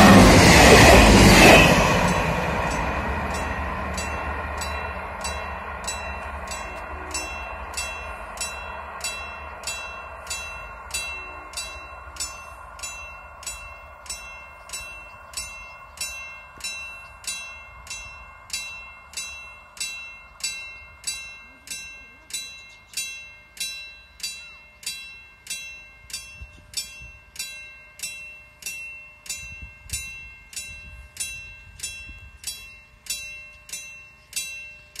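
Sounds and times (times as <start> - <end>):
level-crossing warning bell: 0.0 - 35.0
train receding: 0.0 - 35.0.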